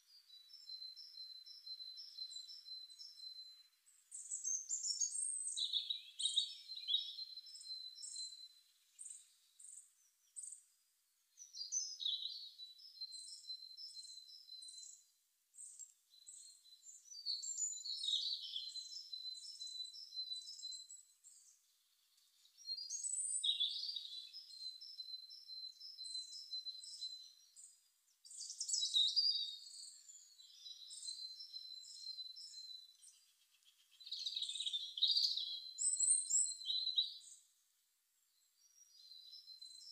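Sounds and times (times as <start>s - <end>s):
songbird chirping: 0.0s - 37.6s, 38.2s - 39.9s.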